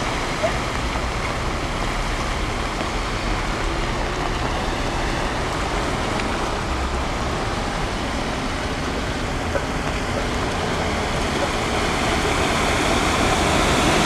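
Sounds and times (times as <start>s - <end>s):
cars splashing through floodwater: 0.0s - 14.0s
traffic noise: 0.0s - 14.0s.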